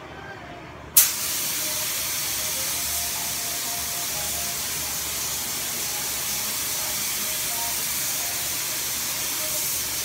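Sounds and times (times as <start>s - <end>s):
paint spray gun hissing: 1.0s - 10.0s.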